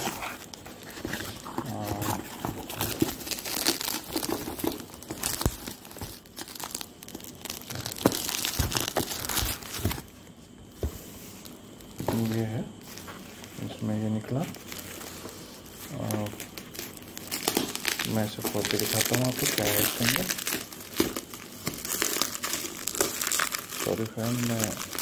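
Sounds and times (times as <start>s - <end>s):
cardboard and plastic packaging crinkling: 0.0s - 25.0s.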